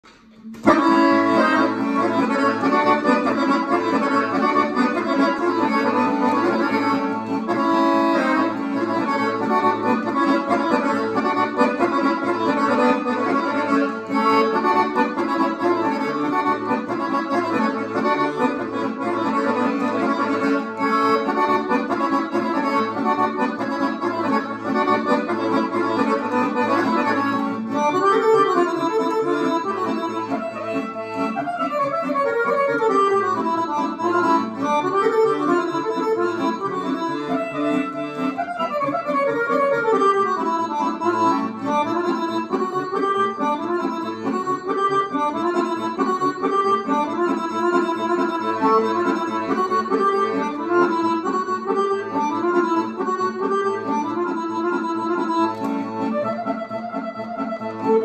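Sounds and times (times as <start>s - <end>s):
button accordion folk dance tune: 0.0s - 58.0s.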